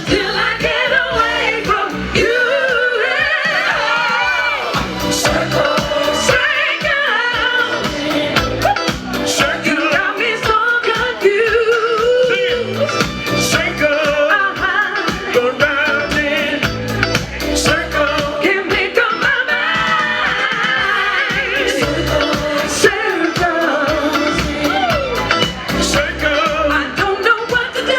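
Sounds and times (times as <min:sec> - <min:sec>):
drums: 0:00.0 - 0:27.9
lead vocalist singing: 0:00.0 - 0:27.9
live soul band music: 0:00.0 - 0:27.9.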